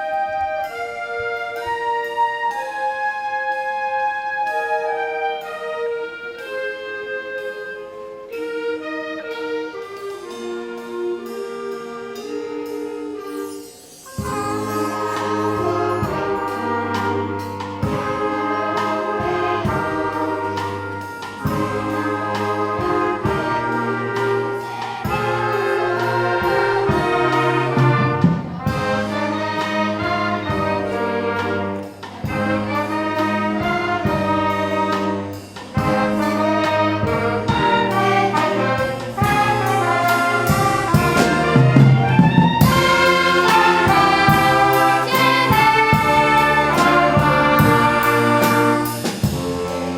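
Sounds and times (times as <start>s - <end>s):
brass ensemble music: 0.0s - 49.9s.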